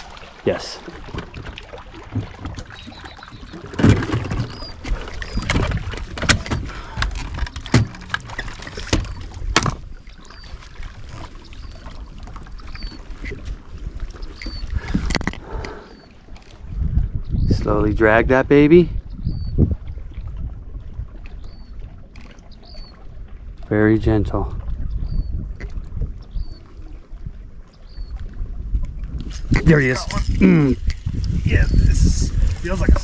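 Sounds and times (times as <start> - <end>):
low rumble of wind and water: 0.0 - 33.0.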